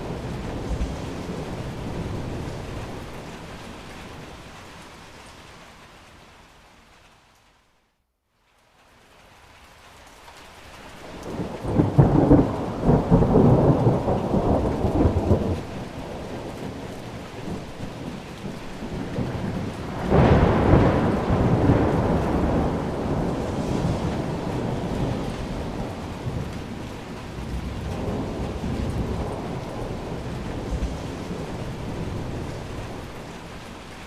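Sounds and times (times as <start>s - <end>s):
thunder rolling: 0.0s - 4.4s, 11.0s - 34.0s
thunder clap and rumble: 0.0s - 4.8s, 11.0s - 34.0s
rain: 0.0s - 34.0s.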